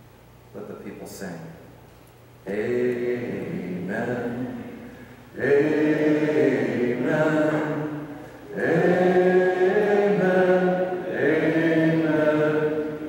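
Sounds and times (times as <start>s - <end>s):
congregation singing a hymn: 2.4s - 13.0s.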